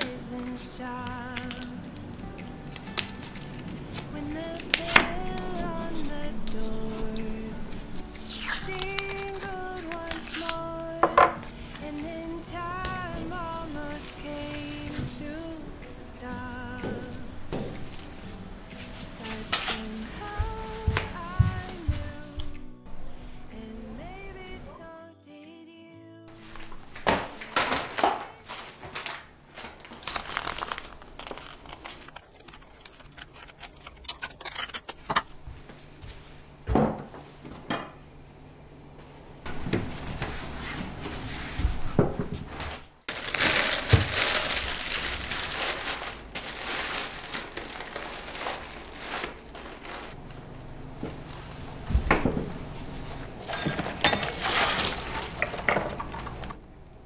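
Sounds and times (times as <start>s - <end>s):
paper and fabric rustling: 0.0s - 23.2s, 26.3s - 36.6s, 39.5s - 50.5s, 51.1s - 56.6s.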